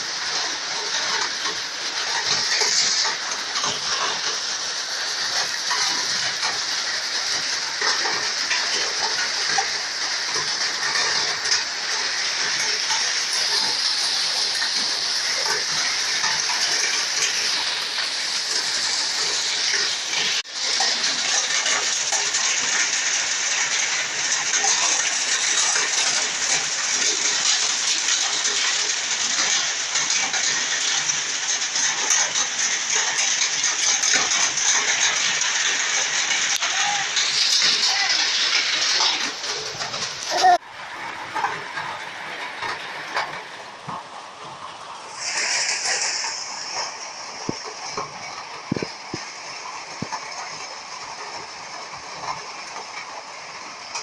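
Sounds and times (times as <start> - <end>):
heavy rain and hail falling: 0.0 - 54.0.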